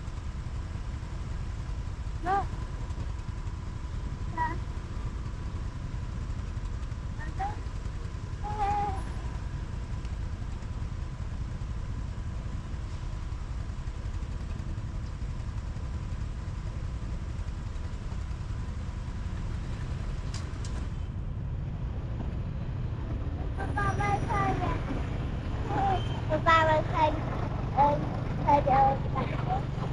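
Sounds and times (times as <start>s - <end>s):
motorbike engine and wind: 0.0s - 29.9s.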